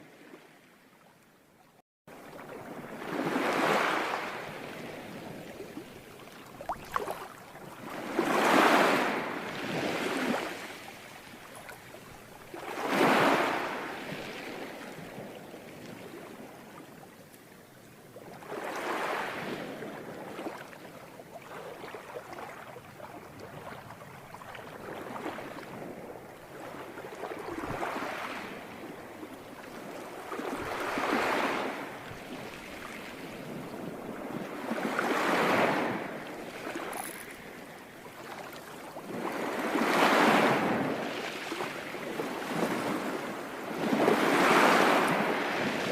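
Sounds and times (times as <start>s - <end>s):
ocean waves breaking on shore: 2.1s - 45.9s.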